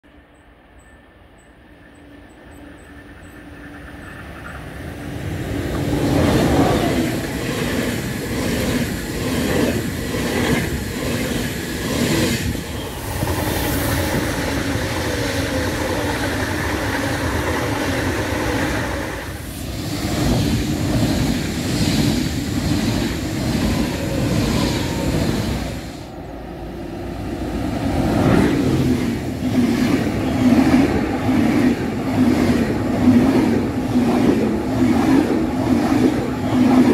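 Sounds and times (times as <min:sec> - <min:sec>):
high-speed trains passing: 0:00.0 - 0:36.9.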